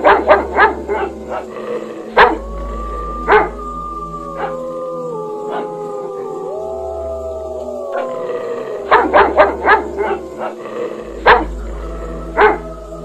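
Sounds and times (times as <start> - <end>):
dogs howling: 0.0 - 13.0.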